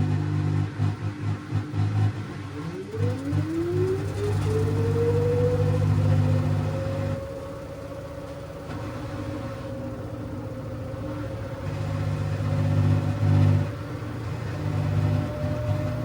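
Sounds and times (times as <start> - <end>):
low drive hum: 0.0 - 16.0
washing machine motor whine: 0.0 - 16.0.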